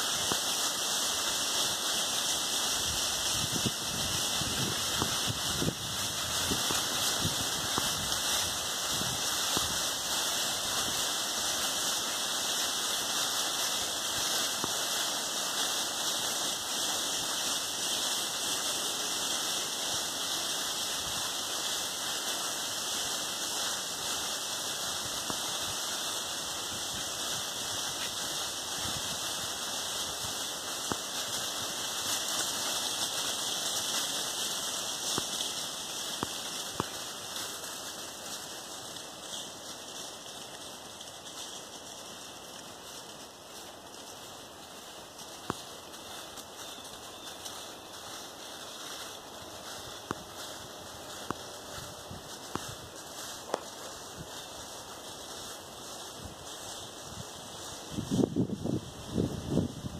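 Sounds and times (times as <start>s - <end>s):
hooves crunching dry leaves: 0.0s - 59.9s.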